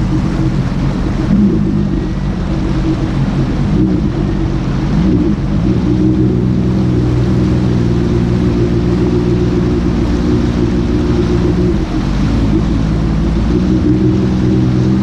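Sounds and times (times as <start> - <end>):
jet ski engine running: 0.0 - 15.0
water and wind noise: 0.0 - 15.0.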